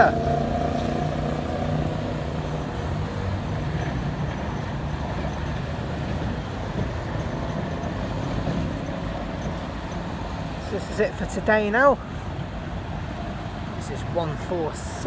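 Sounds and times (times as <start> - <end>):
road traffic: 0.0 - 15.0
tram rumbling: 0.0 - 15.0.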